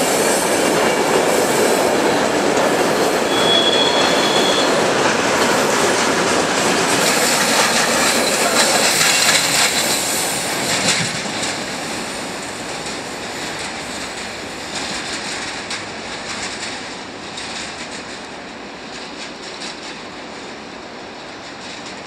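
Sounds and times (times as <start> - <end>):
train wheel and rail noise: 0.0 - 22.0.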